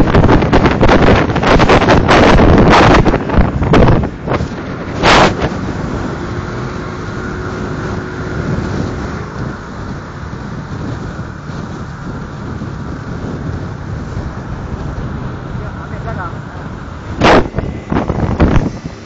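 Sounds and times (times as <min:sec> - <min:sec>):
motorcycle engine rumble: 0:00.0 - 0:19.0
wind rushing over microphone: 0:00.0 - 0:19.0.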